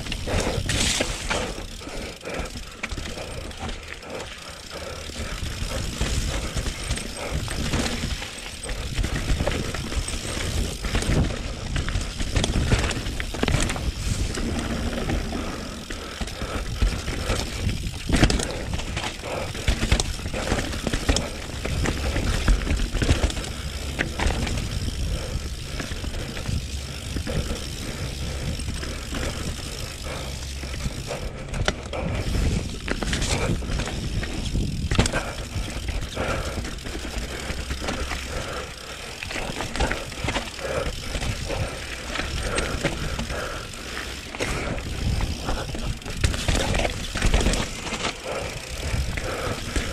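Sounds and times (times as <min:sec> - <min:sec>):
bike tyres rolling on dirt: 0:00.0 - 0:49.9
chain and frame rattling: 0:00.0 - 0:49.9
bike knocking over bumps: 0:05.0 - 0:43.4, 0:44.1 - 0:49.9.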